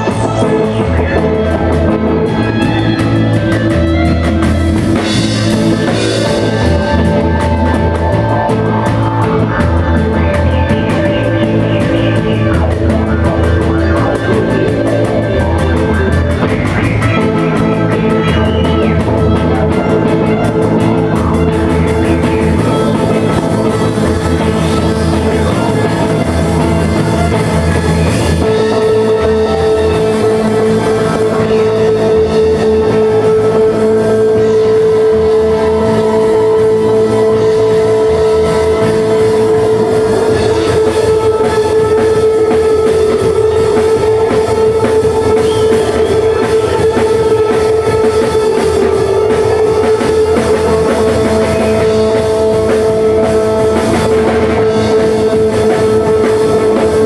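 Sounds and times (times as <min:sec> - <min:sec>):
deep bass line: 0:00.0 - 0:57.0
sustained electric guitar: 0:00.0 - 0:57.0.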